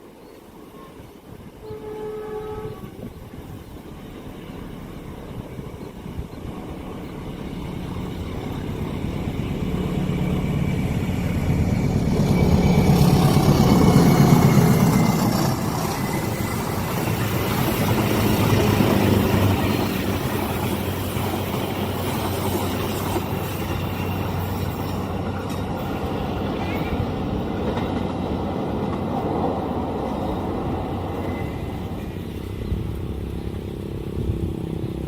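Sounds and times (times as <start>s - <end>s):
diesel locomotive engine: 0.0s - 35.0s.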